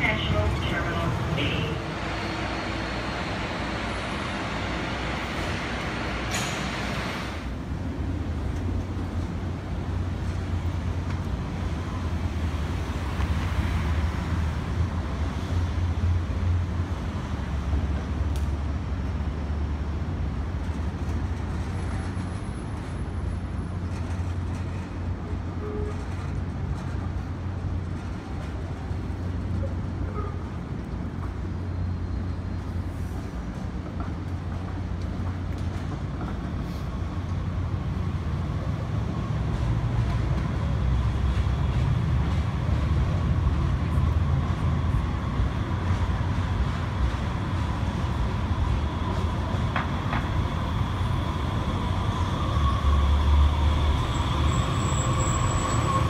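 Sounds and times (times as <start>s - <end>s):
city traffic noise: 0.0s - 56.0s
streetcar rumbling on rails: 0.0s - 56.0s.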